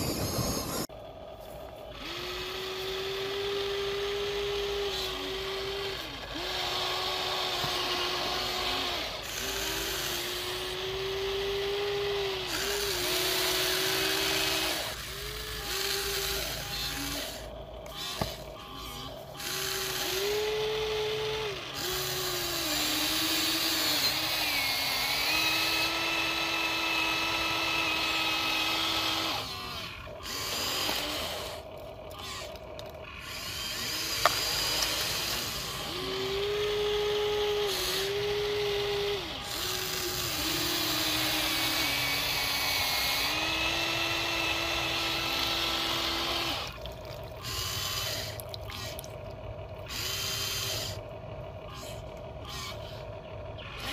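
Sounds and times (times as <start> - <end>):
toy excavator motors whining: 0.0 - 53.9.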